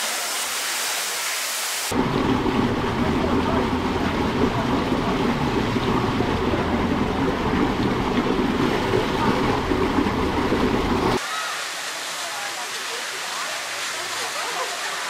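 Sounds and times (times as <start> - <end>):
water rushing down a slide: 0.0 - 15.0.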